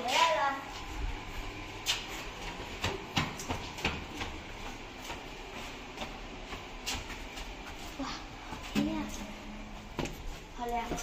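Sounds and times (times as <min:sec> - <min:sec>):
footsteps on brick floor: 0:00.0 - 0:11.0.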